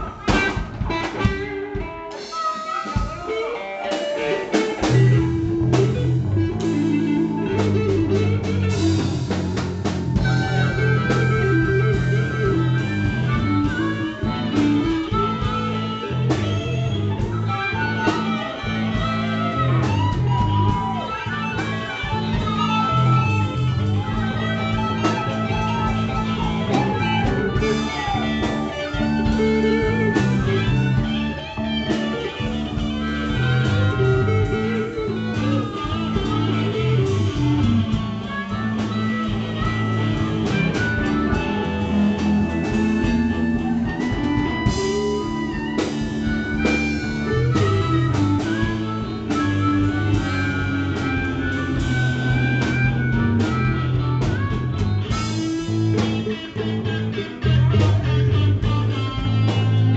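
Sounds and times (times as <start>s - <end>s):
bass and drums: 0.0s - 59.9s
electric guitar: 0.0s - 59.9s
harmonica holding long notes: 1.1s - 59.9s.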